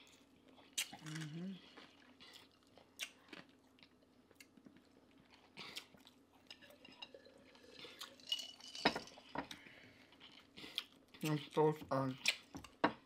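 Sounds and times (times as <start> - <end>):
chewing and mouth sounds: 0.0 - 6.9, 9.1 - 12.8.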